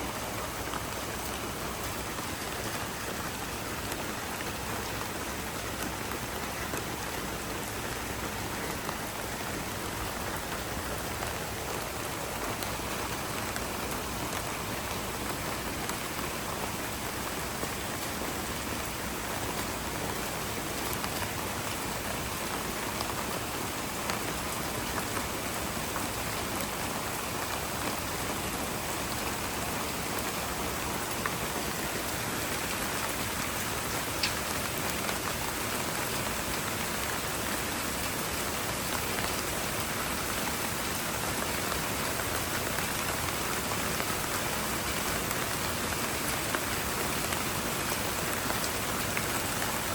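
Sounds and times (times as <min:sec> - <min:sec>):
rain falling on hard surfaces: 0:00.0 - 0:49.9.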